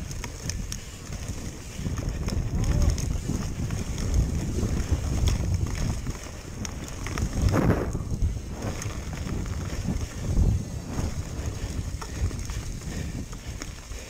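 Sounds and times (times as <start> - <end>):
bike rattles and knocks: 0.0 - 14.0
tyres rumbling on dirt: 0.0 - 14.0
wind buffeting microphone: 0.0 - 14.0.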